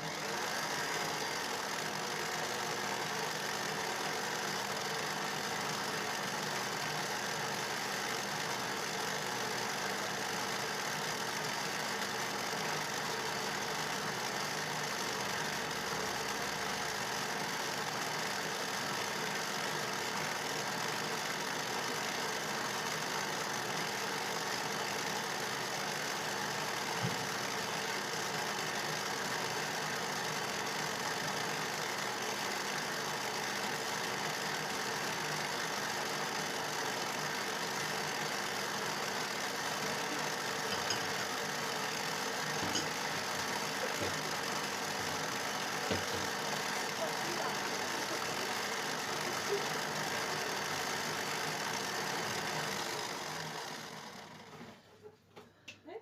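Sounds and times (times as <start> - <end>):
electric hand mixer beating batter: 0.0 - 54.9.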